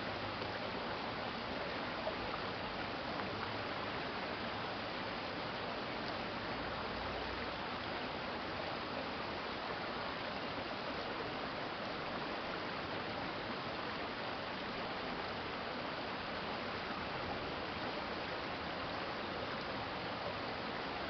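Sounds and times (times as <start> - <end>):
shallow stream flowing: 0.0 - 21.0.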